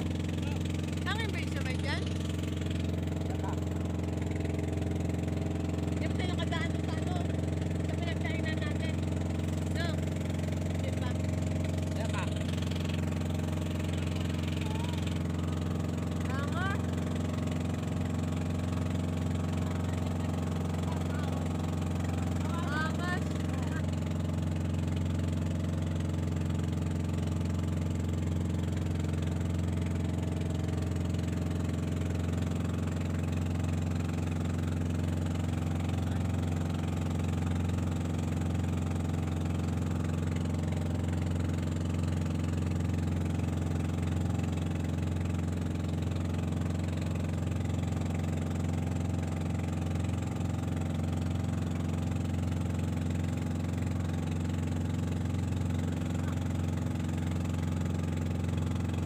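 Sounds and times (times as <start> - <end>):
boat engine humming: 0.0 - 59.0.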